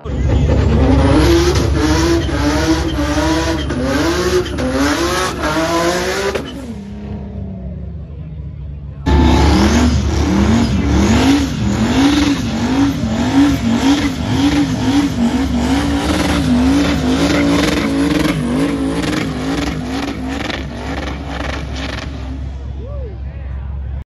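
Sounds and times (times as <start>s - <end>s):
car engine revving: 0.0s - 22.8s.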